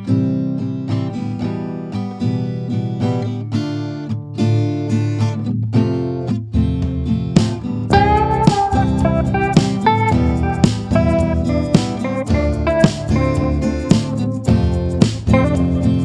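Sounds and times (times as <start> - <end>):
acoustic guitar tune: 0.0 - 16.0.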